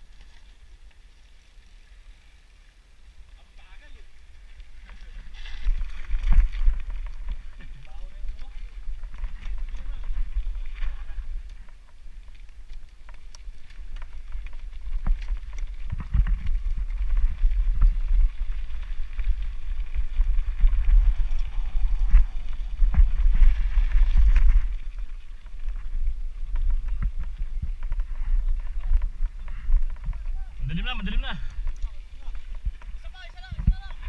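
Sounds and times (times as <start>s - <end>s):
wind rumbling on microphone: 0.0s - 34.0s
bike clicks and rattles: 4.0s - 34.0s.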